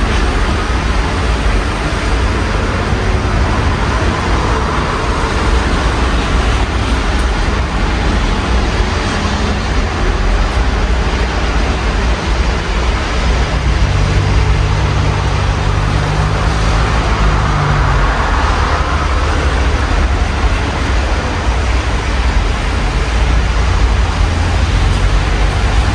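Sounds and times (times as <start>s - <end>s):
low rumble of street traffic: 0.0s - 25.9s
steady rain falling: 0.0s - 25.9s.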